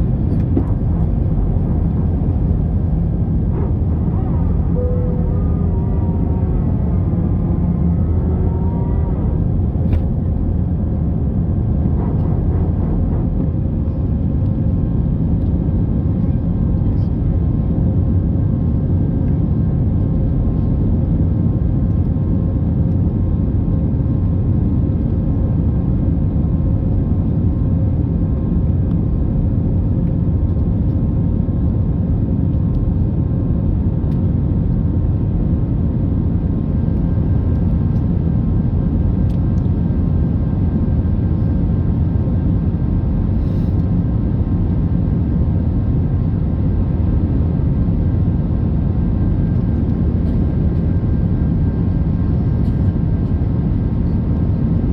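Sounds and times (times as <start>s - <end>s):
jet engines rumbling: 0.0s - 22.5s, 31.2s - 54.9s.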